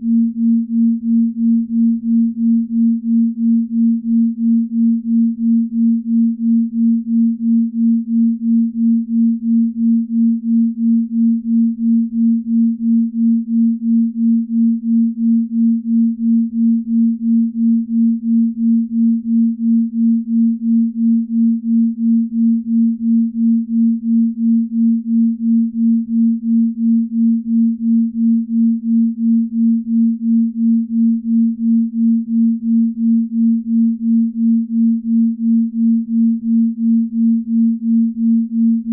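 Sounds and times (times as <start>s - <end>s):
throbbing low sine tone: 0.0s - 38.9s.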